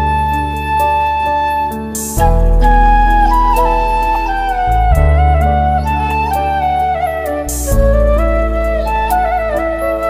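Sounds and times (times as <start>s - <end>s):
instrumental music with bass: 0.0s - 10.0s.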